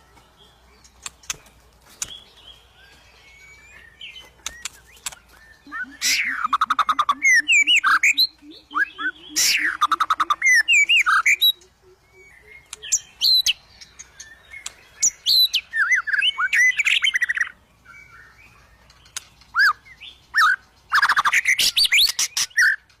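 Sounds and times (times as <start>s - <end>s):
songbird whistles and trills: 0.0s - 23.0s.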